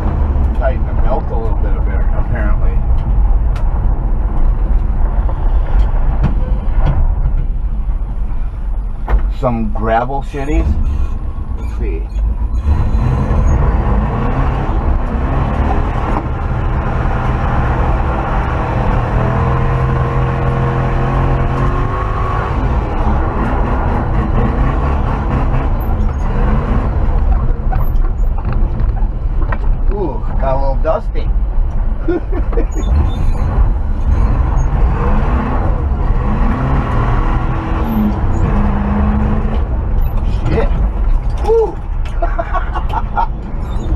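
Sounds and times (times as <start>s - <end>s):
tyre and road noise: 0.0s - 43.9s.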